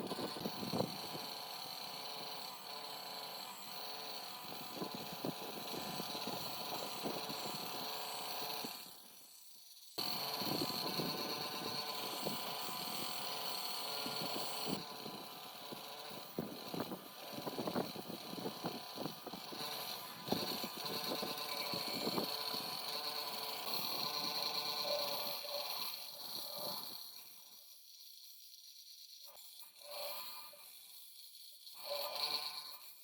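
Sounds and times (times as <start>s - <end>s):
workshop tool motor running: 0.0s - 33.0s.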